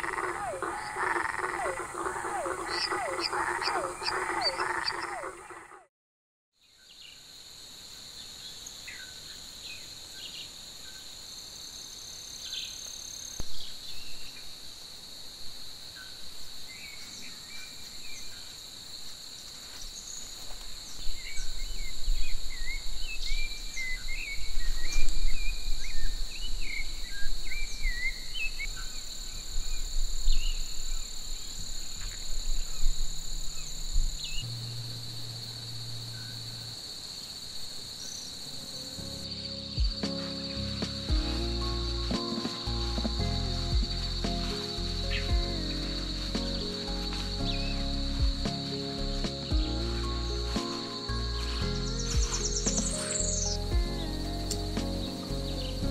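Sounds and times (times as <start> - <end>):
crickets trilling: 0.0 - 5.9, 6.6 - 55.9.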